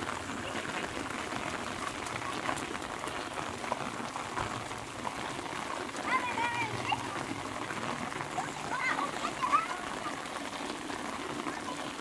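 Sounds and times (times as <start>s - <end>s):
rain on paved road: 0.0s - 12.0s
raindrop ticks: 0.0s - 12.0s.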